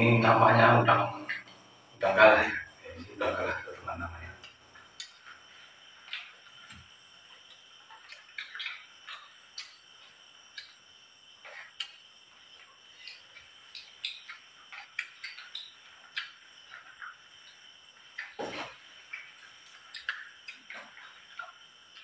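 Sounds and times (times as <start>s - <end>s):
night insects chirping: 0.0s - 22.0s.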